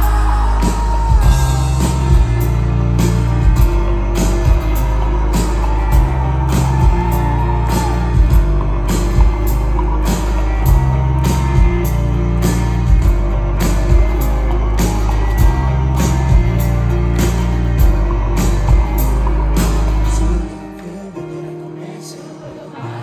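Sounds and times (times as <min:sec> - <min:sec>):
drums keeping steady beat: 0:00.0 - 0:20.4
live band playing: 0:00.0 - 0:22.9.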